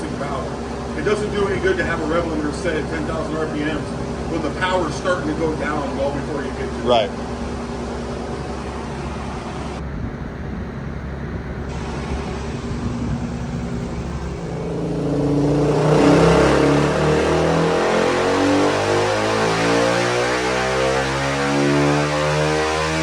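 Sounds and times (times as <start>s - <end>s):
motorcycle engine revving on a dyno: 0.0s - 9.8s, 11.6s - 23.0s.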